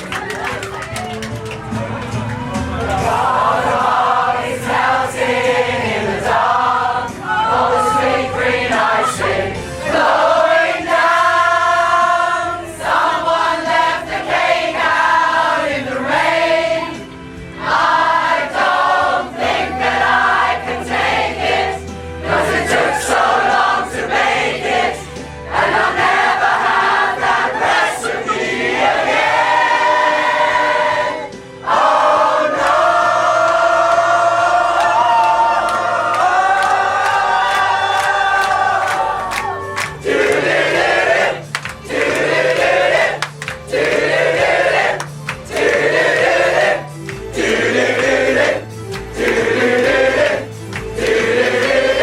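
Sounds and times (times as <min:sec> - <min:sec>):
musical accompaniment: 0:00.0 - 0:52.0
pop choir singing: 0:02.9 - 0:52.0.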